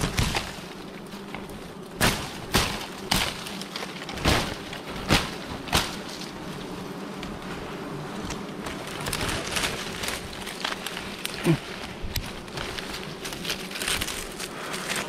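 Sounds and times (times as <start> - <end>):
twigs snapping by hand: 0.0 - 0.6, 1.2 - 6.4, 8.2 - 15.0.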